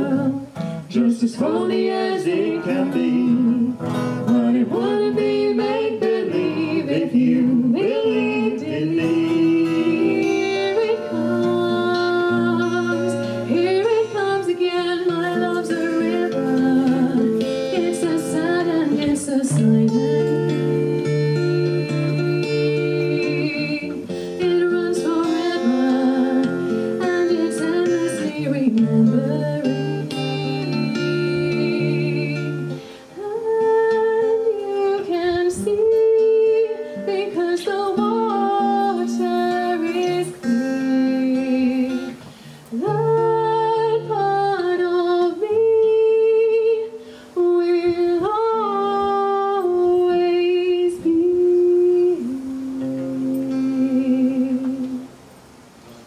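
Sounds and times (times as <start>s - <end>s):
woman singing: 0.0s - 55.2s
acoustic guitar: 0.0s - 56.0s.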